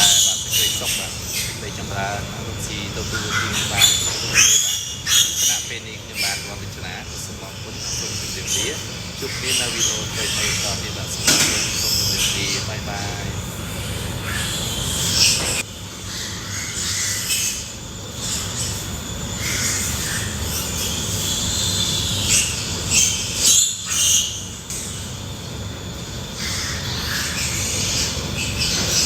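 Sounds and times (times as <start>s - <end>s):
pigs squealing: 0.0s - 25.2s, 26.2s - 29.0s.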